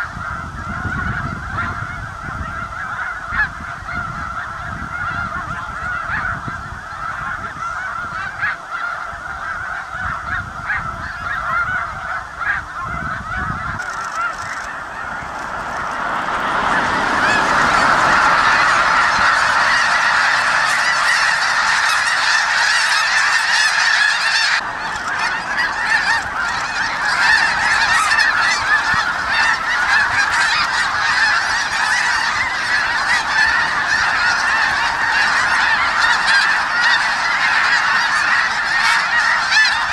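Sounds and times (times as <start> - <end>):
geese honking: 0.0 - 39.9.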